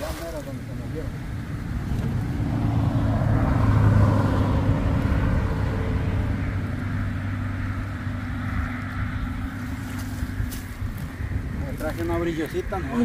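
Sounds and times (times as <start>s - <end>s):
passing vehicle engine: 0.0s - 13.0s.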